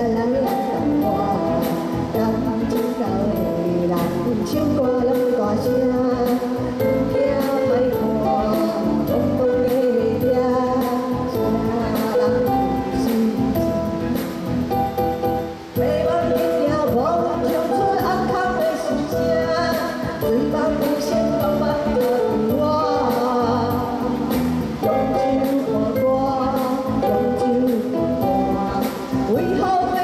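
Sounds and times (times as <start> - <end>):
electronic keyboard with beat: 0.0 - 30.0
woman singing into microphone: 0.0 - 30.0.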